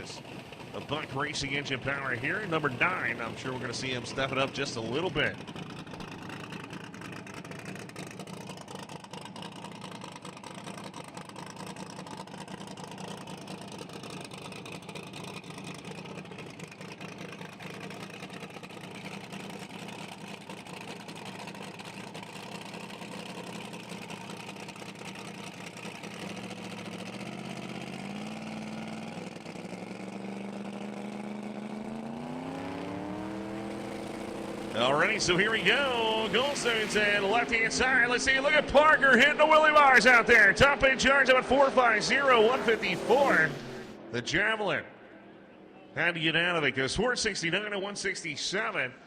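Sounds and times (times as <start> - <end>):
race car engines idling and revving: 0.0 - 44.2.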